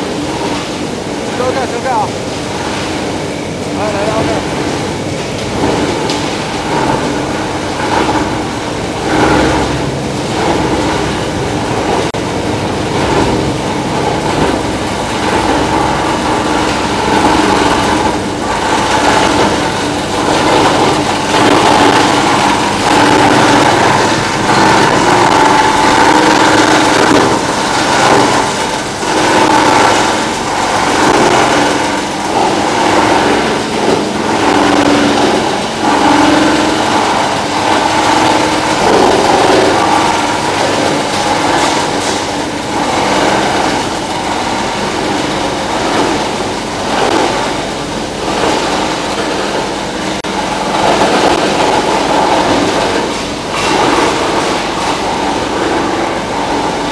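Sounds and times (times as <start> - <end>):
machinery clatter: 0.0 - 56.9
machinery droning: 0.0 - 56.9.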